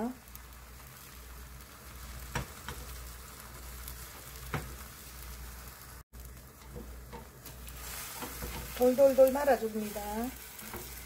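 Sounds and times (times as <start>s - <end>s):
egg sizzling in a pan: 0.0s - 11.0s.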